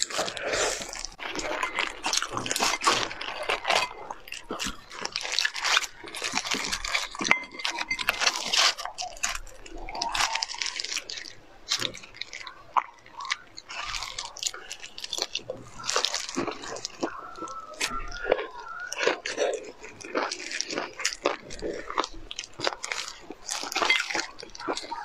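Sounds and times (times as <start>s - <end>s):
crunching bites and chewing: 0.0s - 25.0s
meat torn off bones: 0.0s - 25.0s.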